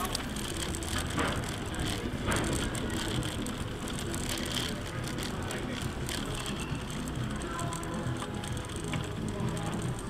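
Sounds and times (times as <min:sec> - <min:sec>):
cycle rattling over cobblestones: 0:00.0 - 0:10.0.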